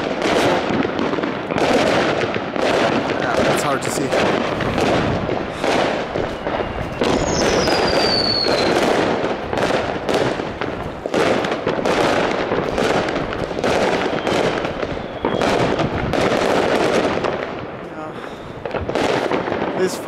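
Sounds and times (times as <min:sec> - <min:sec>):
whistling firework: 0:00.0 - 0:17.5
fireworks bangs and crackles: 0:00.0 - 0:20.0.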